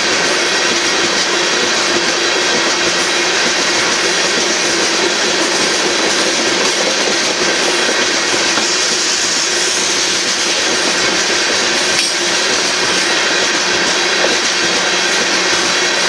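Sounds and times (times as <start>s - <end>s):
steel wheels rushing on rails: 0.0s - 16.0s.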